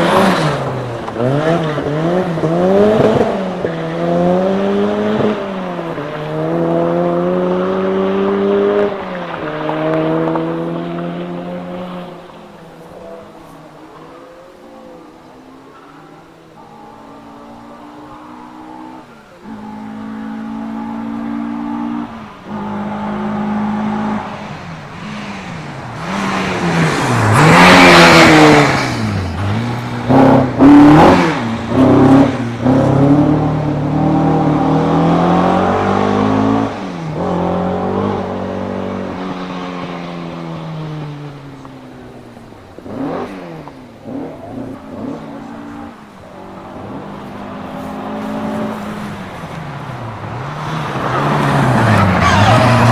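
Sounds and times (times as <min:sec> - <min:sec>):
rally cars racing past: 0:00.0 - 0:52.9.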